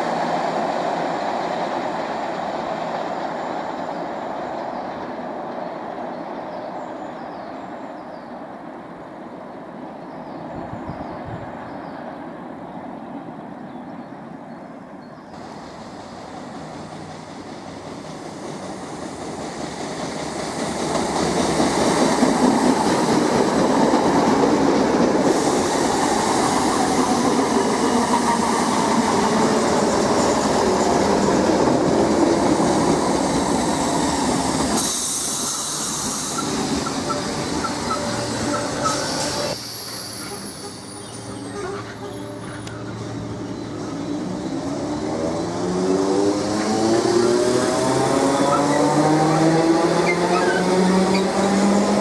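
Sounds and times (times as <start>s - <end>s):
electric train passing: 0.0s - 52.0s.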